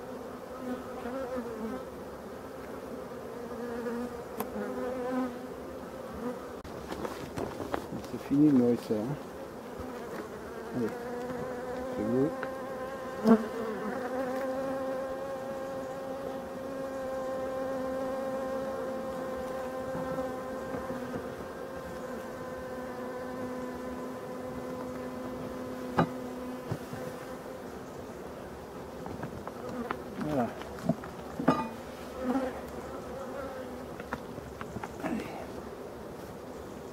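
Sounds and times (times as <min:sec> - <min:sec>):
bees buzzing: 0:00.0 - 0:36.9.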